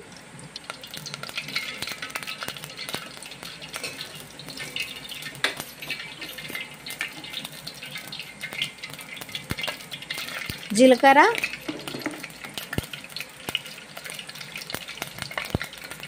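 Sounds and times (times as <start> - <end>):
oil sizzling and popping: 0.0 - 16.0.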